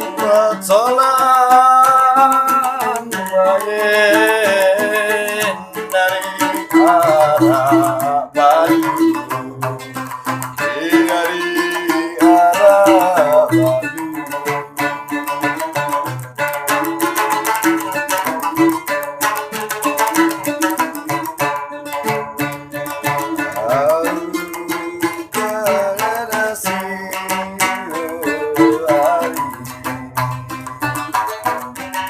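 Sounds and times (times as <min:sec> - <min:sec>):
plucked lute playing: 0:00.0 - 0:32.0.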